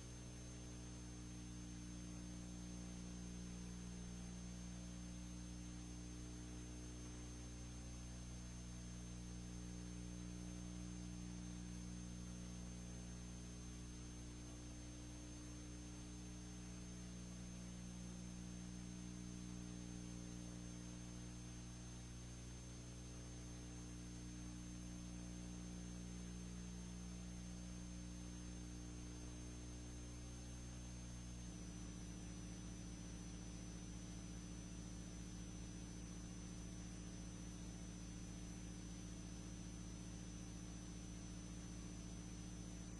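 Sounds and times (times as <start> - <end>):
faint electrical hum with hiss: 0.0 - 42.9.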